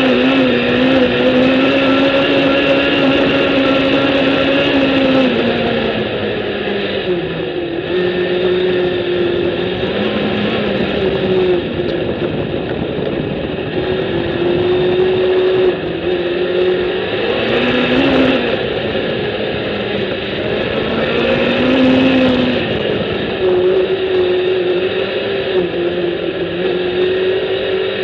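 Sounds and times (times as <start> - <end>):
engine revving: 0.0 - 28.0
wind and tyre rush: 0.0 - 28.0.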